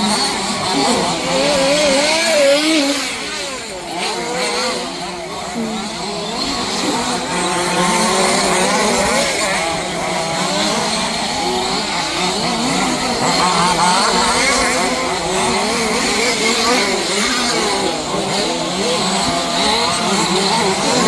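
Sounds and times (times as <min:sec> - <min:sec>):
rc buggy engines revving: 0:00.0 - 0:21.0.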